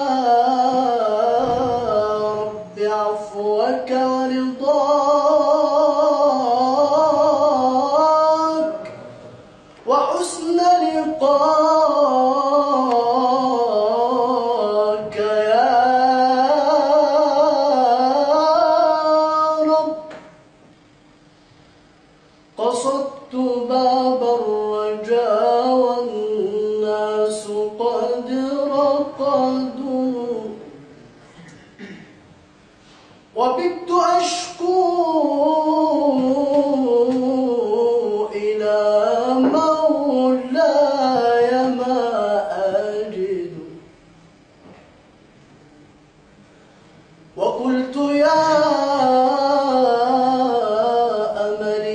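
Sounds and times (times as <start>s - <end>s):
man singing unaccompanied: 0.0s - 20.4s, 22.6s - 30.9s, 33.3s - 43.9s, 47.3s - 51.9s.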